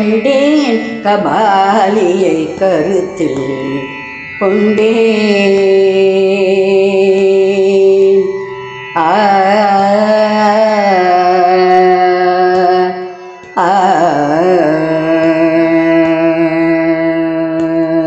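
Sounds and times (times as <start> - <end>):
woman singing: 0.0 - 8.4, 9.0 - 18.0.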